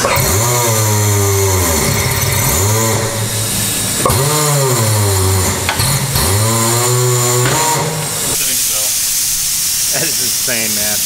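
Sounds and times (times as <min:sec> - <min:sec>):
electric motor whining: 0:00.0 - 0:09.8.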